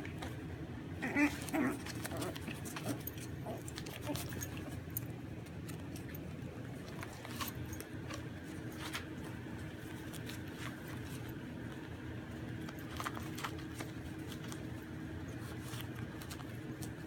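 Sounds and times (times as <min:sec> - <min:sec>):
puppies scratching and clicking: 0:00.0 - 0:17.0
steady low hum: 0:00.0 - 0:17.0.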